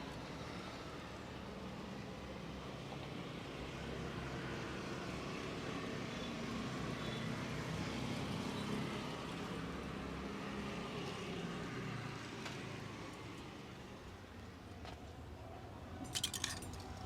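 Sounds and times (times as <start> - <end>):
street traffic rumbling: 0.0 - 17.0.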